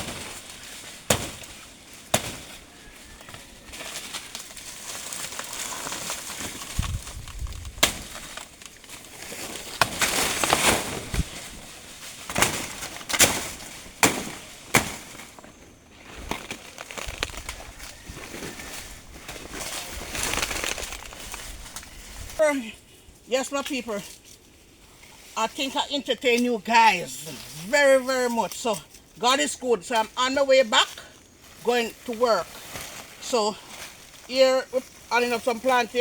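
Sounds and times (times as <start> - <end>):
rustling outdoor noise: 0.0 - 36.0.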